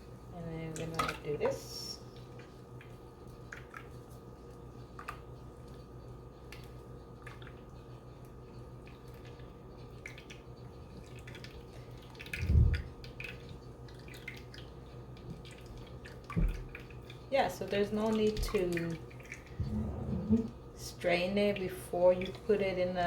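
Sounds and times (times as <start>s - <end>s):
steady low hum: 0.0s - 23.0s
faint drips: 0.4s - 19.7s, 20.3s - 23.0s.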